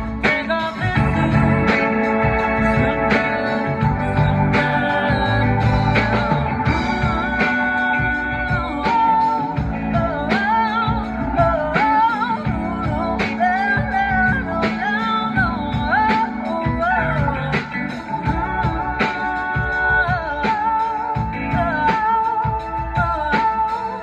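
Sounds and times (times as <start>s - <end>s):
lead vocal singing: 0.0s - 24.0s
live band playing slow song: 0.0s - 24.0s.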